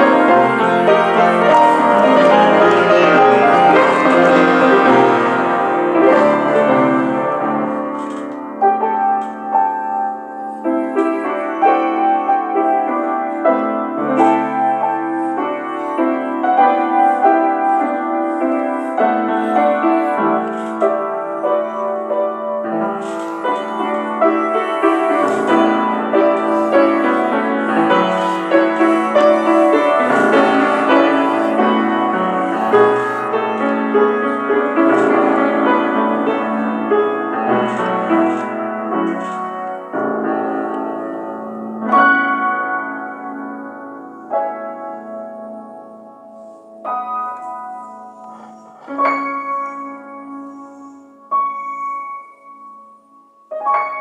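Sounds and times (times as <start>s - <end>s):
solo piano music: 0.0s - 54.0s.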